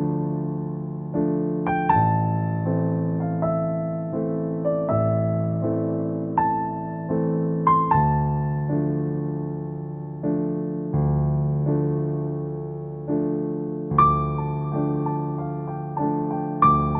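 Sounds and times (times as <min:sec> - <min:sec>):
slow electric piano chords: 0:00.0 - 0:16.9.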